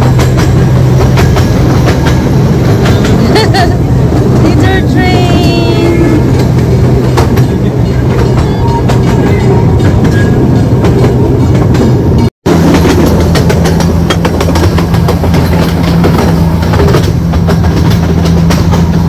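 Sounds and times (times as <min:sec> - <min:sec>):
train low hum: 0:00.0 - 0:19.0.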